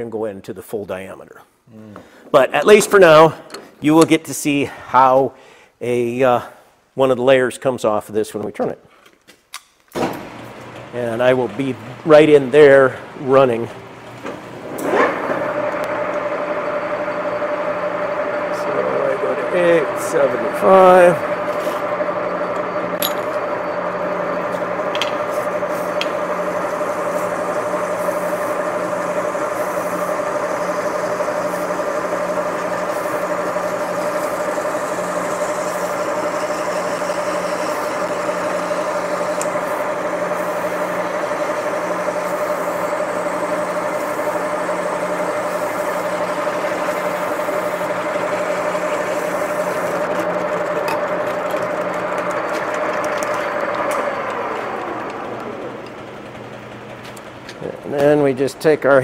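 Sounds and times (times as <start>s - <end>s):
lathe tool cutting rubber: 10.2s - 58.3s
metal lathe humming and whining: 10.2s - 59.0s.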